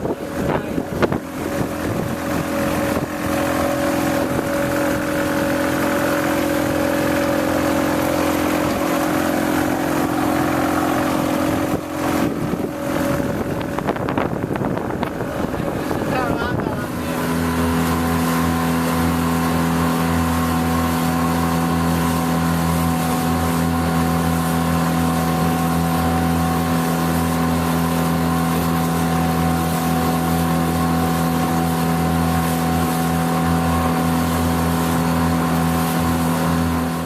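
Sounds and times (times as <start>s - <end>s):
motorboat engine running: 0.0s - 37.0s.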